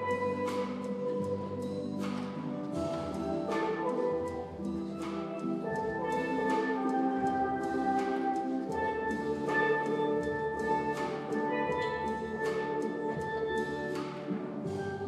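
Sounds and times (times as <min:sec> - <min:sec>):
light percussion strokes: 0:00.0 - 0:15.0
steel drum ensemble melody: 0:00.0 - 0:15.0.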